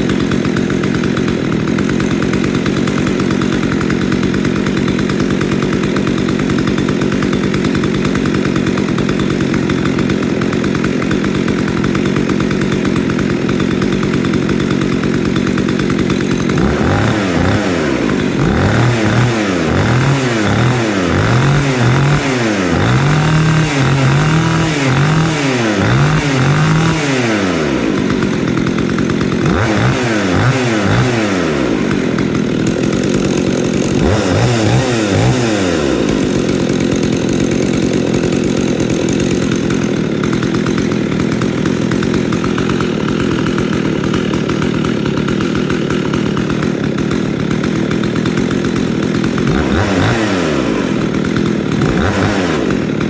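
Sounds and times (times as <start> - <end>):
chainsaw idling and revving: 0.0 - 53.0.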